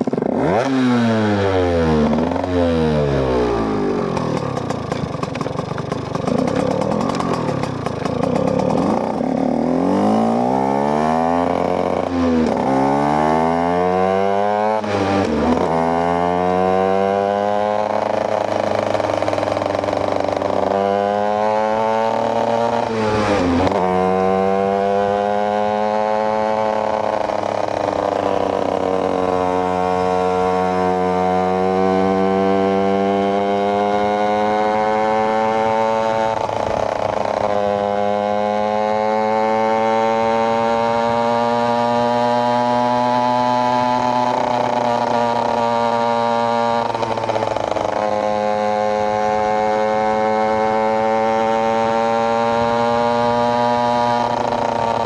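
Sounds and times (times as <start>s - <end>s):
two-stroke engine accelerating: 0.0s - 55.0s.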